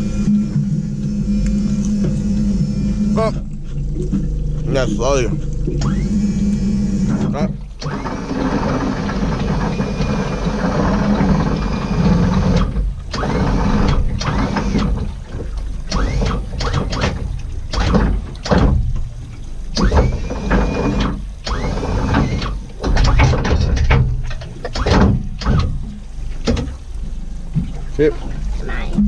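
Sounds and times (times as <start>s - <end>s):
outboard motor rumble: 0.0s - 29.0s.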